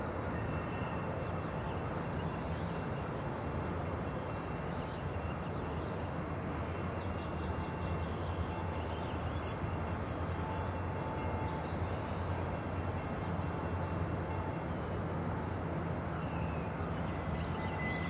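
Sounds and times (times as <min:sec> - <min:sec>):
distant freight train rumbling: 0:00.0 - 0:18.0.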